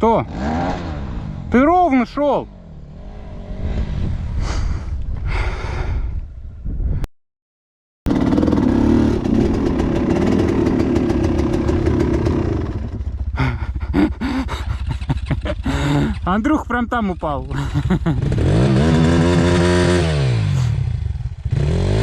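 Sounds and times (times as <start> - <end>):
motorcycle engine revving: 0.0 - 4.4, 8.1 - 22.0.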